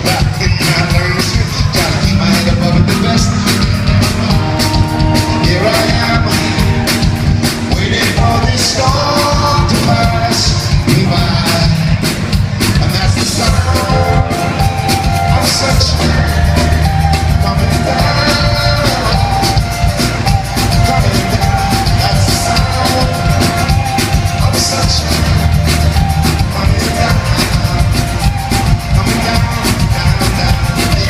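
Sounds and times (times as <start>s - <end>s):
live band playing amplified music: 0.0s - 31.0s
quick drum beat: 0.0s - 31.0s.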